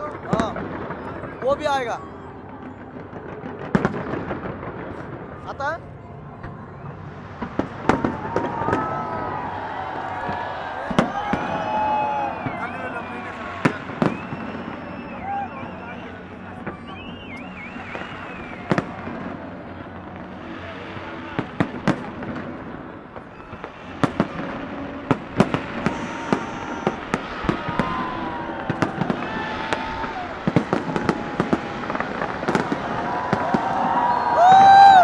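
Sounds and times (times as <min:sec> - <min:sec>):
fireworks exploding: 0:00.0 - 0:35.0.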